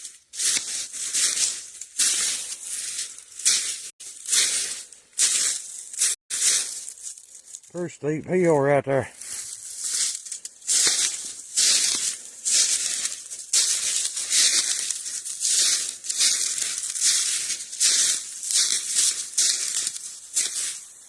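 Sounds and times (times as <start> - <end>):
footsteps crunching through dry leaves: 0.0 - 7.8, 9.1 - 21.0.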